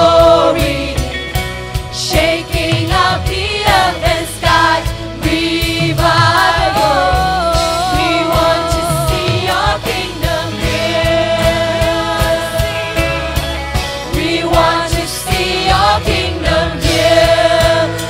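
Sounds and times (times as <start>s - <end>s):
band with steady drum beat: 0.0s - 18.0s
group singing worship song: 0.0s - 18.0s.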